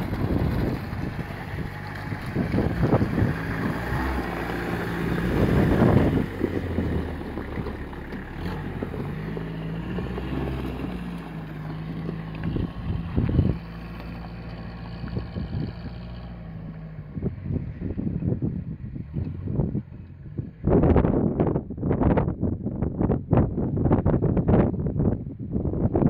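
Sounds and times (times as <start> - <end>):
pickup engine at low revs: 0.0 - 22.3
wind gusts on microphone: 0.0 - 26.0.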